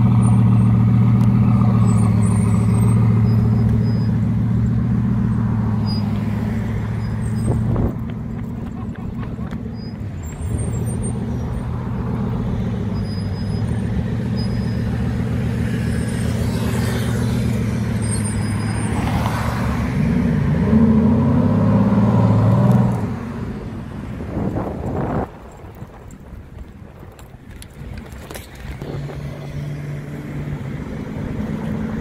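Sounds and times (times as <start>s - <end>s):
car engine accelerating: 0.0s - 26.0s, 27.8s - 32.0s.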